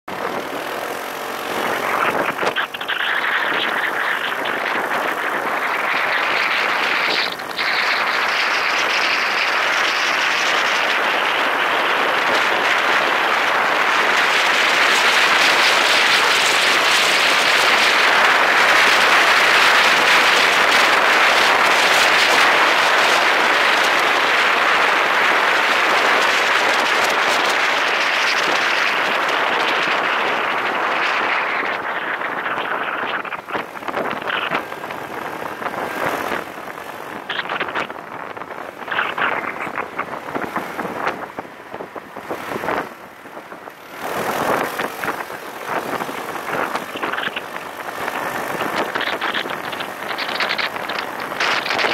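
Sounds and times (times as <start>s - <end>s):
wind rushing over microphone: 0.1s - 51.9s.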